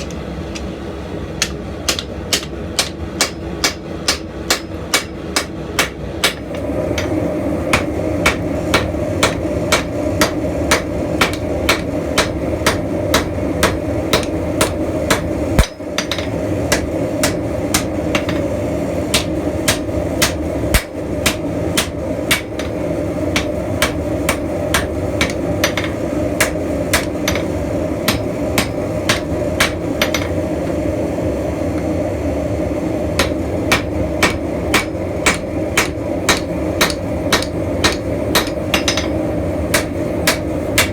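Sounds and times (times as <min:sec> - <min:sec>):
hammer striking steel on anvil: 0:01.4 - 0:18.5, 0:19.1 - 0:30.5, 0:33.2 - 0:40.9.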